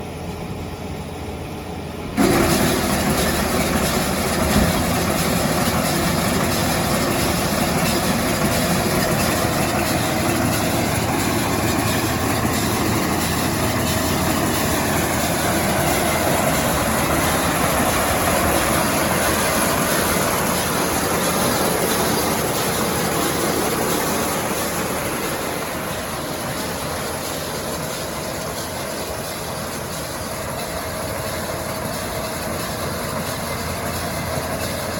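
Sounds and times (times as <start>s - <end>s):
tractor engine and baler running: 0.0s - 34.9s.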